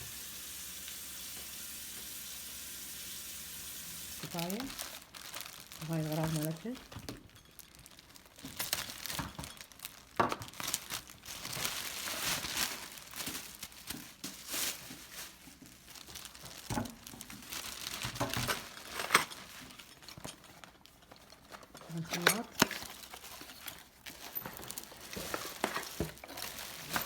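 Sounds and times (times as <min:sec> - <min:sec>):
plastic packaging crinkling: 0:04.1 - 0:27.0.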